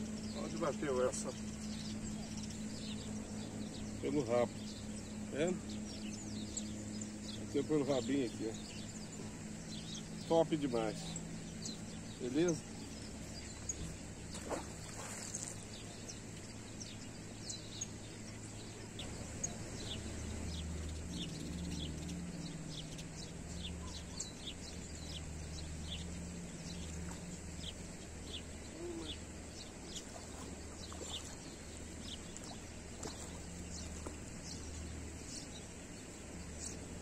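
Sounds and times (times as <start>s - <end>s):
low steady hum: 0.0s - 37.0s
small birds chirping: 0.0s - 37.0s.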